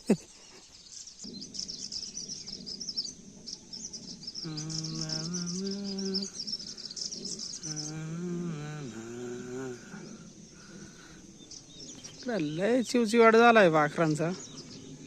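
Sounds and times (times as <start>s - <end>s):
small birds chirping and twittering: 0.0s - 15.0s
low pitched hum: 1.2s - 15.0s.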